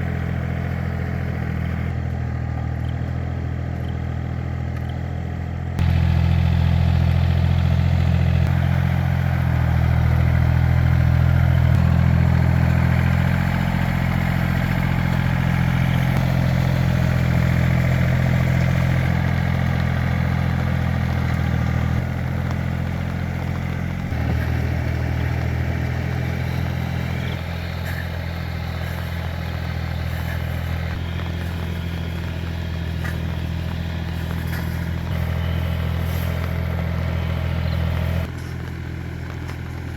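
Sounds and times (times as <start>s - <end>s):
walking tractor engine running: 0.0s - 39.9s.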